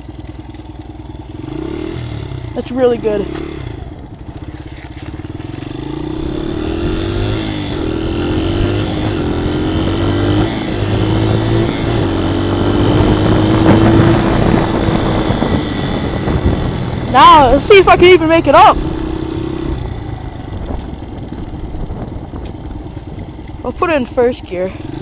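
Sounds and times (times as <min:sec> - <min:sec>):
dirt bike engine revving: 0:01.2 - 0:22.8, 0:23.6 - 0:25.0.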